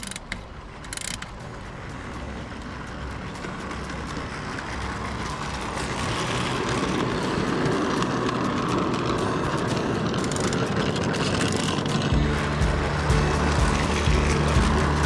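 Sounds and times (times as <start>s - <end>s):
miniature train running on track: 0.0s - 15.0s
wheels clicking: 0.0s - 15.0s.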